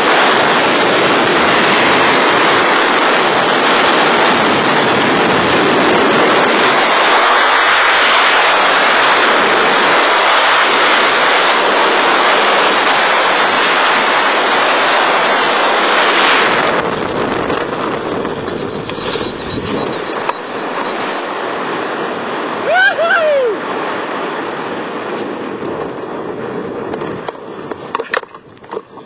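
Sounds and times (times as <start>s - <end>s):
strong wind rushing over microphone: 0.0s - 29.0s.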